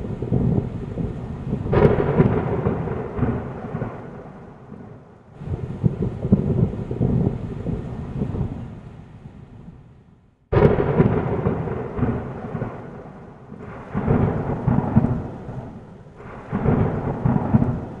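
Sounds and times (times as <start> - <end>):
thunder crack: 0.0 - 8.8, 10.5 - 18.0
rain hiss: 0.0 - 18.0
rolling thunder rumbles: 0.0 - 18.0.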